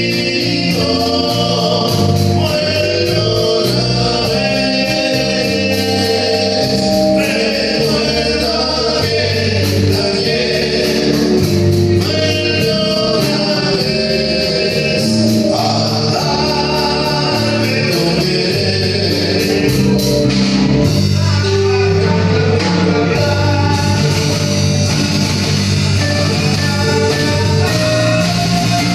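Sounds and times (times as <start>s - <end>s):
bass: 0.0s - 28.9s
guitar: 0.0s - 28.9s
people singing: 0.0s - 28.9s.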